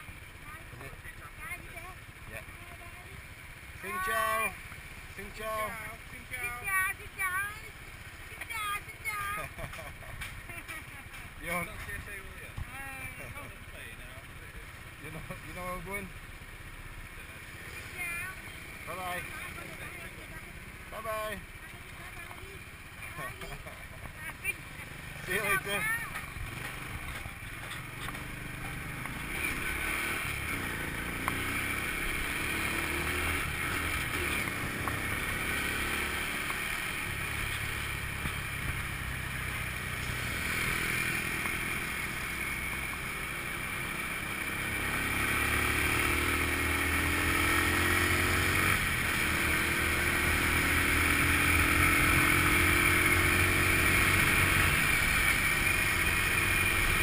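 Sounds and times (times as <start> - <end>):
motorbike engine: 0.0 - 57.0.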